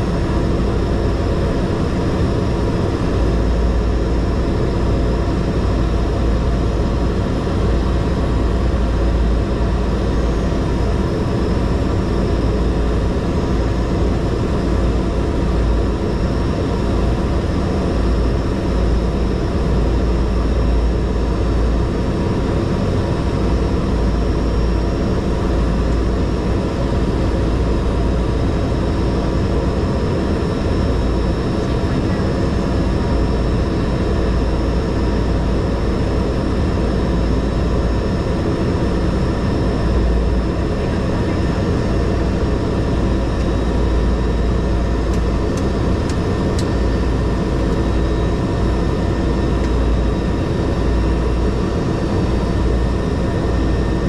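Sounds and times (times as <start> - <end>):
turboprop engine drone with whine: 0.0 - 54.0.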